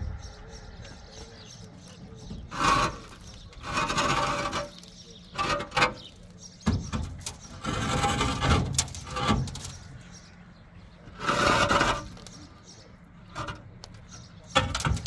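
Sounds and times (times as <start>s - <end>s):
concrete rings scraping and grinding: 1.9s - 6.6s, 7.2s - 15.0s.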